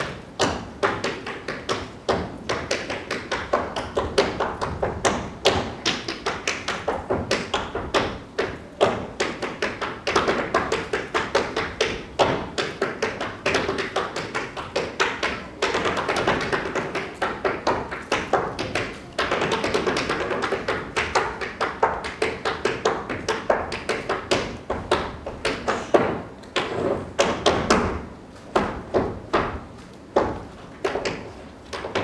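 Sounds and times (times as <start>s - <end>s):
tap shoes on stage floor: 0.0s - 32.0s.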